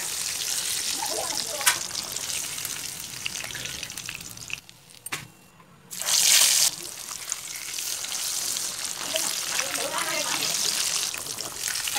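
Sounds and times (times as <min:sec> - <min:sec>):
fish sizzling in hot oil: 0:00.0 - 0:04.7, 0:05.9 - 0:11.9.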